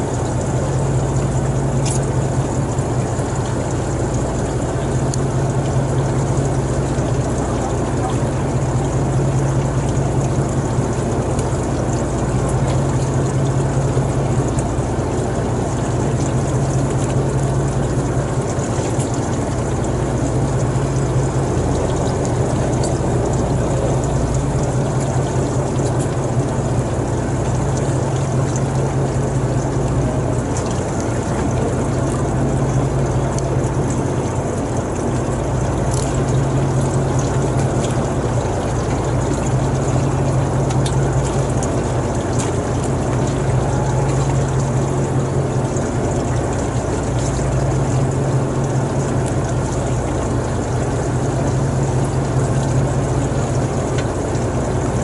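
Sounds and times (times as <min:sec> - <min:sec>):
boat engine drone: 0:00.0 - 0:55.0
rushing water: 0:00.0 - 0:55.0.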